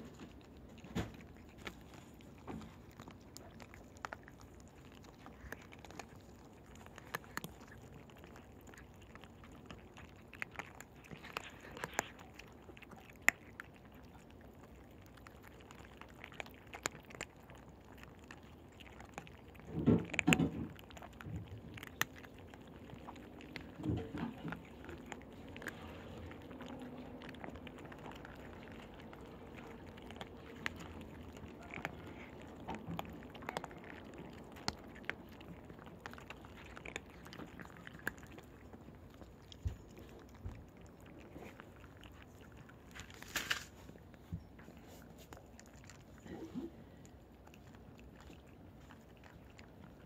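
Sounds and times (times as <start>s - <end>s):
cat crunching dry kibble: 0.0s - 50.0s.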